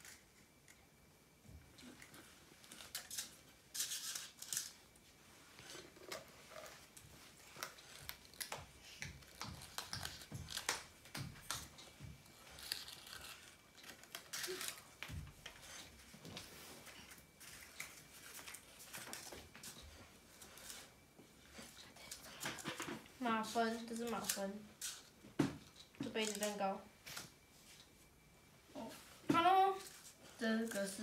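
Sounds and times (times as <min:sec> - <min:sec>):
paper liners rustling: 0:01.8 - 0:27.9.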